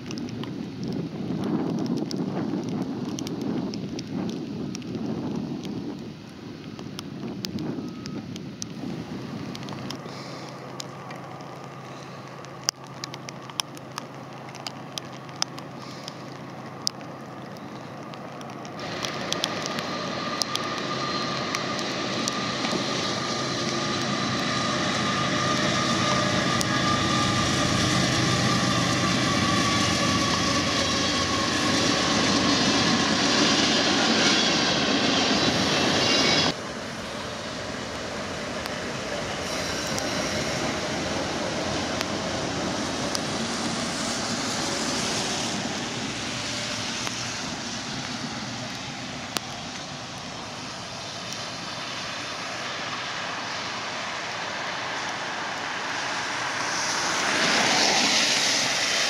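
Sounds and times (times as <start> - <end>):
train wheels rolling on rails: 0.0 - 59.0
diesel locomotive engine running: 6.6 - 59.0.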